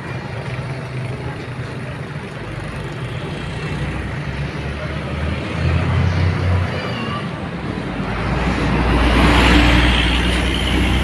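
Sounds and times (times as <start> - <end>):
bus driving past: 0.0 - 11.0.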